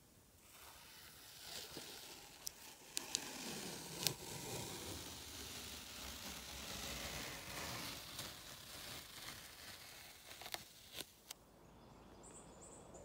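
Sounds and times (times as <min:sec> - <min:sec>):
faint crackling hiss: 0:00.0 - 0:12.4.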